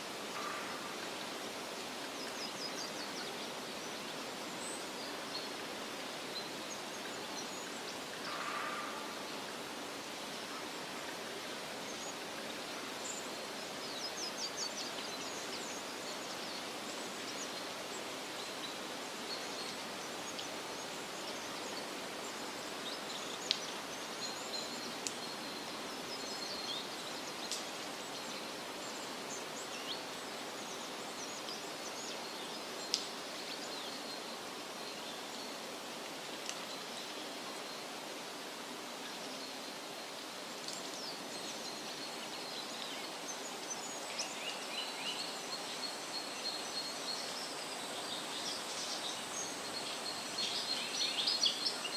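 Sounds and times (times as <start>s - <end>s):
steady hiss: 0.0s - 51.9s.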